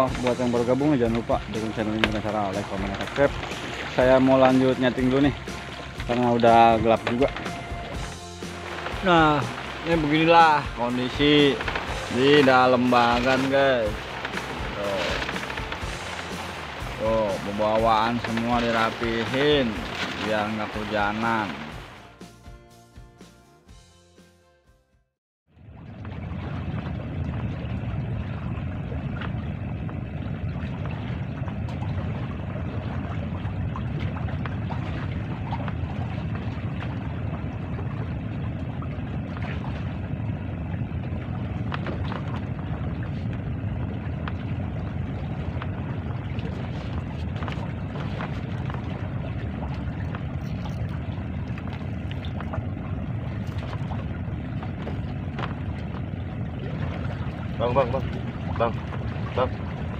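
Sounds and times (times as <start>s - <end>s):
wind and sea rumble: 0.0s - 22.6s, 25.5s - 59.9s.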